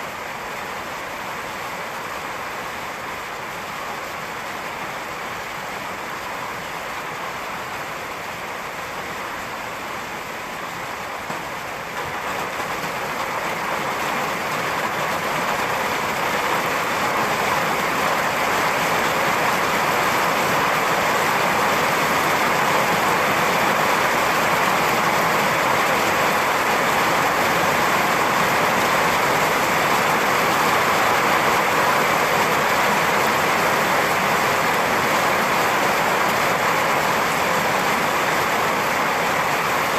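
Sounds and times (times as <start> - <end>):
rain downpour: 0.0 - 39.9.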